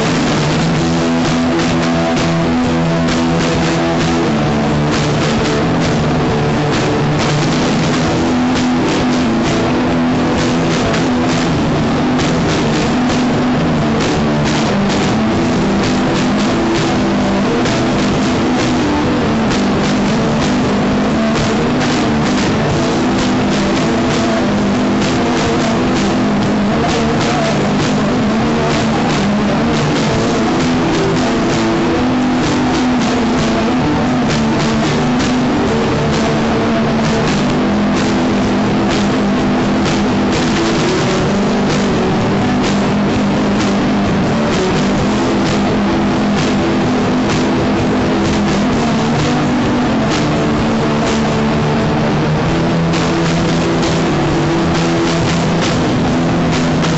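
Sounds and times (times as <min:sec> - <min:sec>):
drum hits: 0:00.0 - 0:56.9
loud rock band playing: 0:00.0 - 0:56.9.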